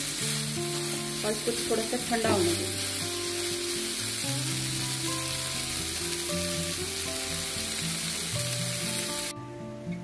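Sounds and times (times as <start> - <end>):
chicken sizzling in hot oil: 0.0 - 9.3.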